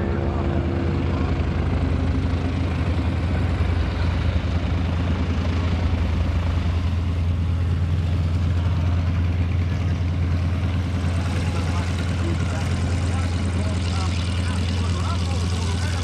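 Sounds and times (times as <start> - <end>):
radial engine and propeller drone: 0.0 - 16.0.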